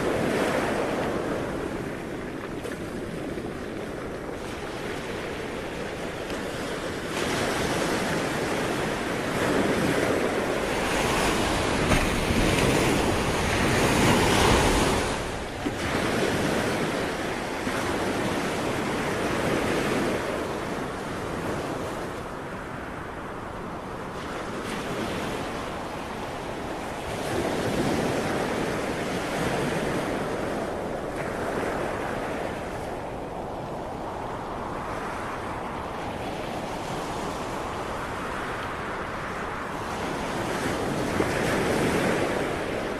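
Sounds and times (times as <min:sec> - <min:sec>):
sea waves breaking on shore: 0:00.0 - 0:42.9.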